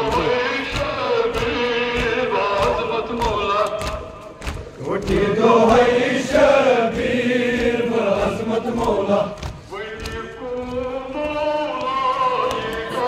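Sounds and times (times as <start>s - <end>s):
men chanting in unison: 0.0s - 13.0s
rhythmic chest-beating slaps: 0.0s - 13.0s.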